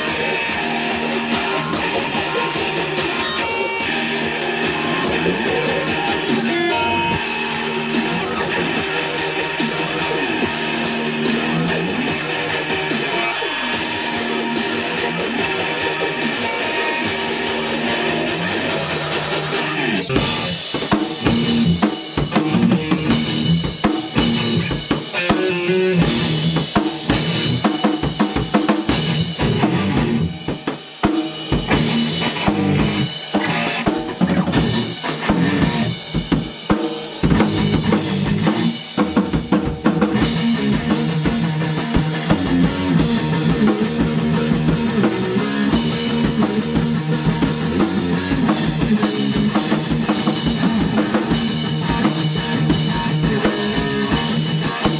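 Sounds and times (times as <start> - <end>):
drum kit hits: 0.0 - 54.9
rock band jamming: 0.0 - 54.9.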